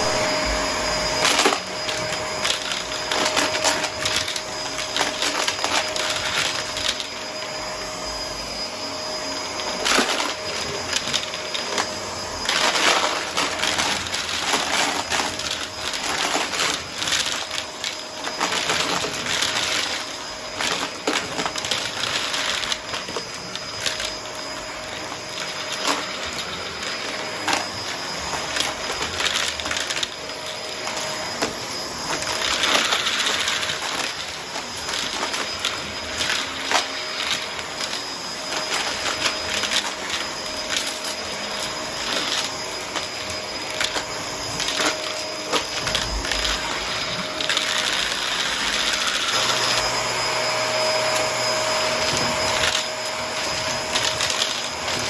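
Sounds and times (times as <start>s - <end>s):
vacuum cleaner whining: 0.0s - 55.0s
coins clattering through hose: 1.2s - 7.3s, 9.6s - 50.0s, 50.9s - 55.0s.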